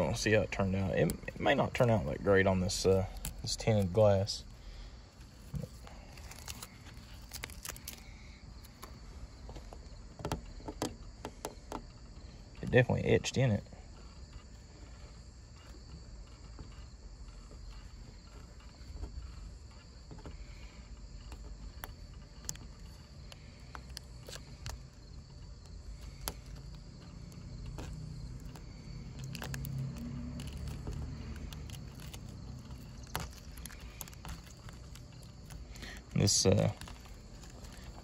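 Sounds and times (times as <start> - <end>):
stencil peeling crackles and rustles: 0.0 - 10.6, 12.6 - 38.0
insect chirring: 0.0 - 38.0.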